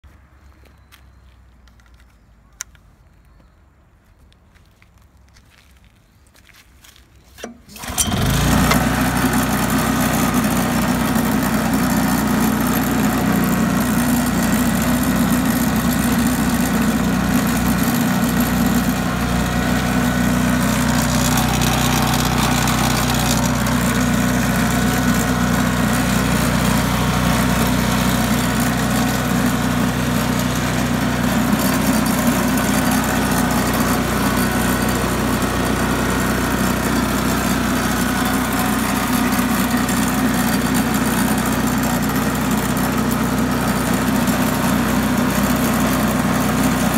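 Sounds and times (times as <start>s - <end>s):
small engine starting and running: 7.4s - 46.9s.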